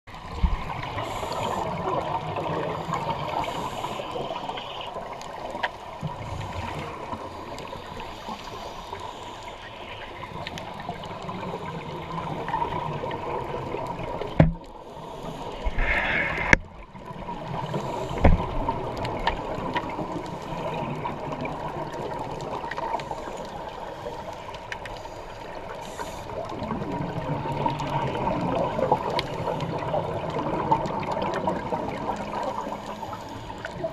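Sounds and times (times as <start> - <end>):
underwater exhaust bubbles gurgling: 0.1 - 33.9.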